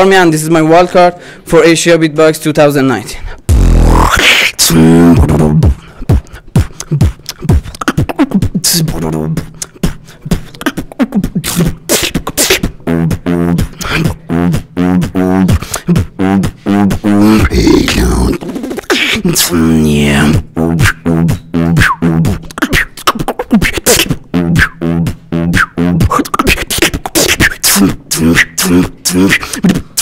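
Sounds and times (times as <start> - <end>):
beatboxing: 3.3 - 30.0.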